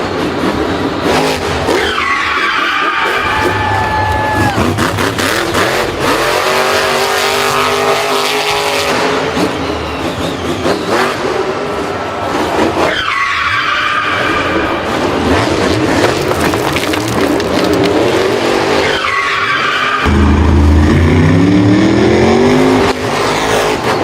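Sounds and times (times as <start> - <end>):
racing engines revving: 0.0 - 24.0
tyres squealing and skidding: 0.0 - 24.0.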